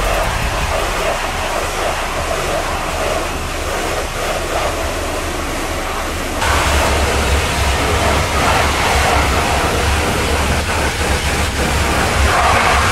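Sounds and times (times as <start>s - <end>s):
pressure washer spraying water: 0.0s - 12.9s.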